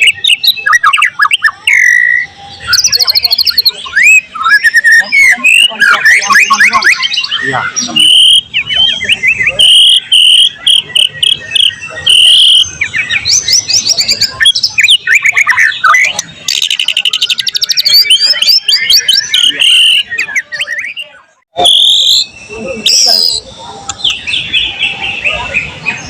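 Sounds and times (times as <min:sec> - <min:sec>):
songbird singing loudly: 0:00.0 - 0:26.0.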